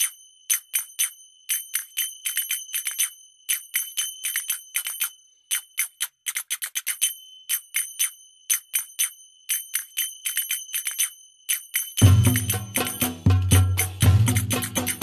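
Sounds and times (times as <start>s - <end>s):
small bell struck rapidly: 0.0s - 15.0s.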